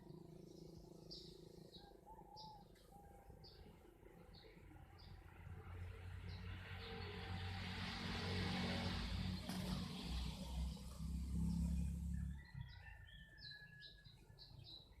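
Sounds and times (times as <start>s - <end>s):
birds chirping: 0.0s - 7.5s, 9.2s - 15.0s.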